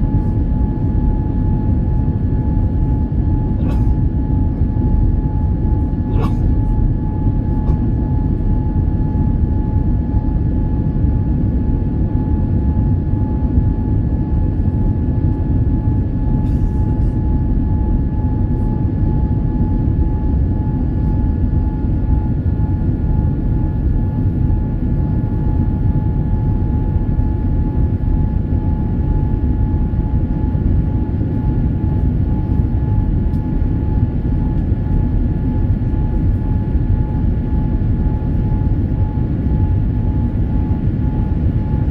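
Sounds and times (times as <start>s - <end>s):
airliner rumble: 0.0s - 41.9s
faint constant whine: 0.0s - 41.9s.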